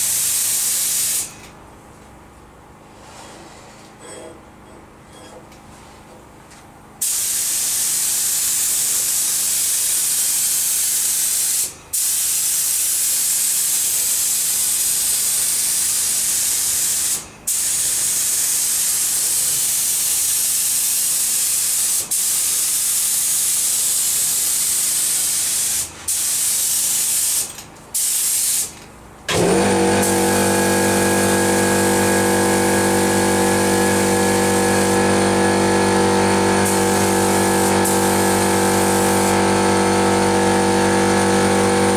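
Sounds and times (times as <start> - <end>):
paint spray gun hissing: 0.0 - 1.3, 7.0 - 41.6
air compressor motor running: 0.0 - 1.5, 7.0 - 41.9.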